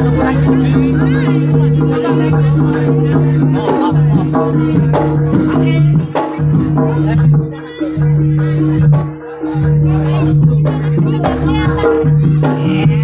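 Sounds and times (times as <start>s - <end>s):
ensemble music with percussion: 0.0s - 13.0s
voices: 0.0s - 13.0s.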